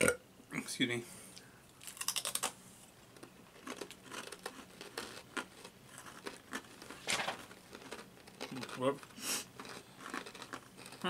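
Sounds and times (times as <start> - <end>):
rice crackers crunching: 1.8 - 11.0.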